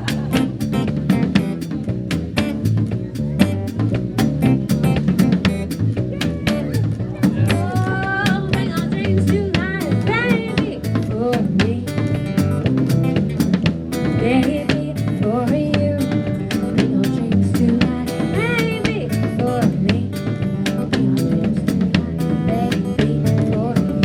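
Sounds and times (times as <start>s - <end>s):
bass line: 0.0s - 24.0s
drum kit beat: 0.0s - 24.0s.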